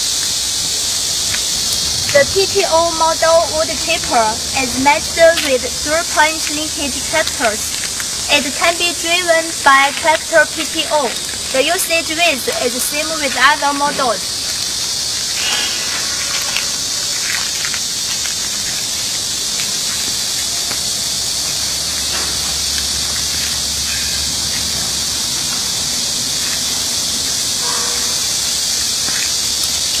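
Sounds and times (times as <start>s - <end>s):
steady high-pitched hiss: 0.0s - 30.0s.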